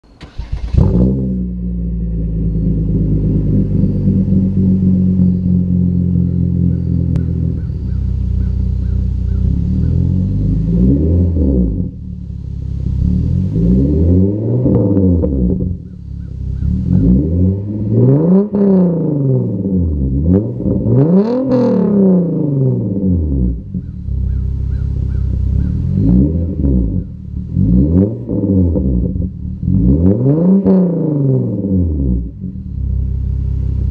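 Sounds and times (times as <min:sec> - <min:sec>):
car engine starting and idling: 0:00.0 - 0:33.9
engine revving: 0:00.0 - 0:33.9.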